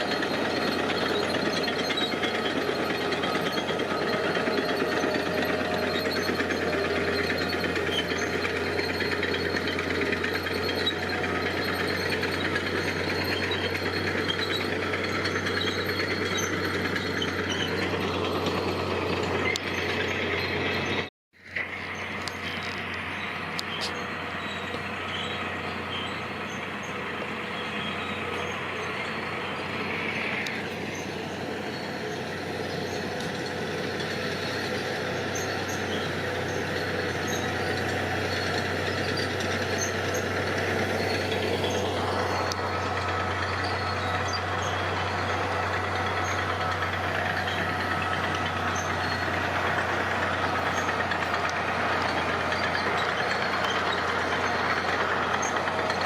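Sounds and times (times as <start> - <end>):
construction machinery engine humming: 0.0 - 56.0.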